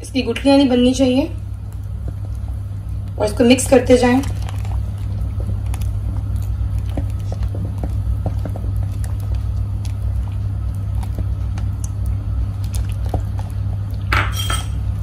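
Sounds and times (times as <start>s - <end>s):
steady low rumble: 0.0s - 15.0s
light liquid sounds: 1.5s - 14.2s.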